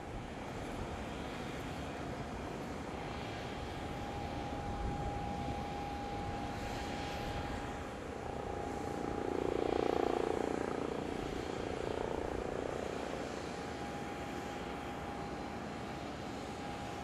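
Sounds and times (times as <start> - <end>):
constant thin tone: 0.0 - 17.0
helicopter rotor: 0.0 - 17.0.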